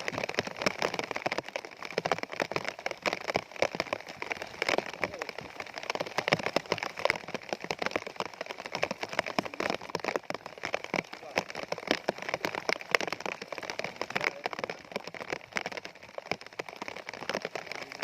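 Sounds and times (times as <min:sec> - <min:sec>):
raindrops hitting close surface: 0:00.0 - 0:18.0.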